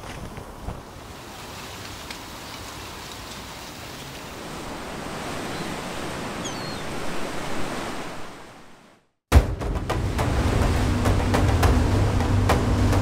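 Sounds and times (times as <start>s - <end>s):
sea waves breaking: 0.0s - 13.0s
wind: 0.0s - 13.0s.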